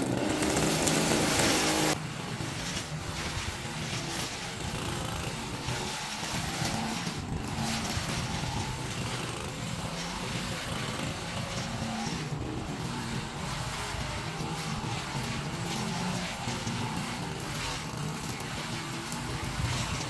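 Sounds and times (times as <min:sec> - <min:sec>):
noisy whir: 0:00.0 - 0:20.0
small gasoline engine running: 0:00.0 - 0:20.0.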